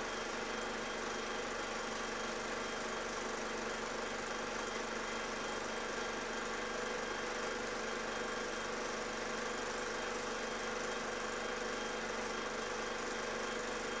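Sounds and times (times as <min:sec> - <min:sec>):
steady mechanical hum with hiss: 0:00.0 - 0:14.0.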